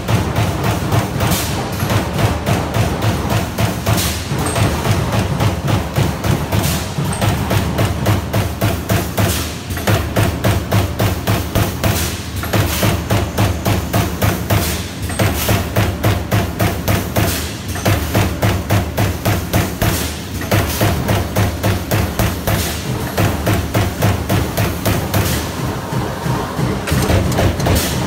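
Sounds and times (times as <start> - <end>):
punch press striking sheet metal: 0.0 - 25.6, 26.9 - 28.0.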